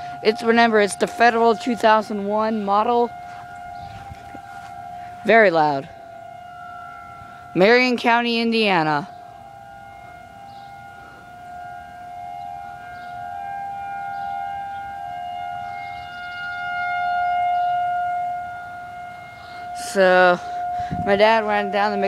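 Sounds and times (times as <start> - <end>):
warning siren wailing: 0.0 - 22.0.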